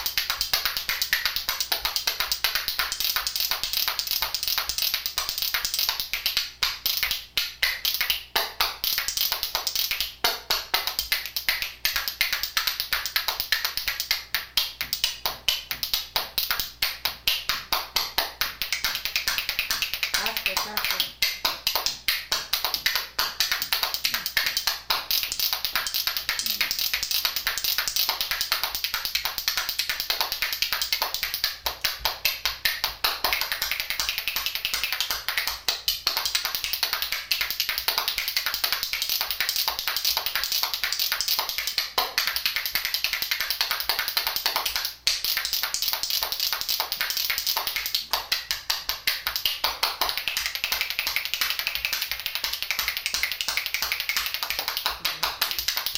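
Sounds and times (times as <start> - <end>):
spoons clacking rhythm: 0.0 - 55.9.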